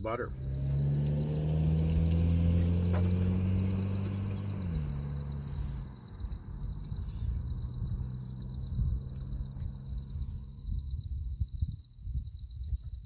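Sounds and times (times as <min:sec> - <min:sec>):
low engine hum: 0:00.0 - 0:12.9
cricket trilling: 0:00.0 - 0:13.0.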